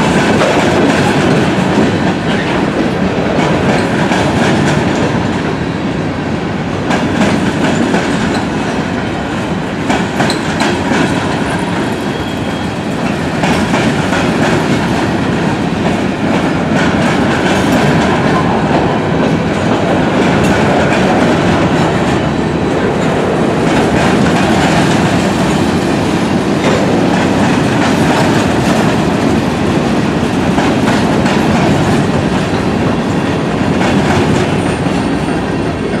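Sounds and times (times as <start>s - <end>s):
freight train rolling past: 0.0s - 36.0s.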